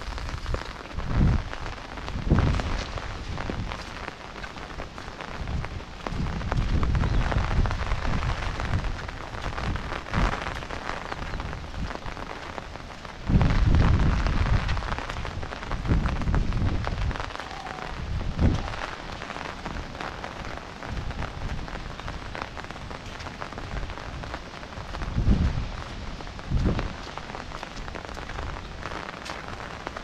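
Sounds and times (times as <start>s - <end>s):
low thunder rumbles: 0.0s - 30.0s
rain falling: 0.0s - 30.0s.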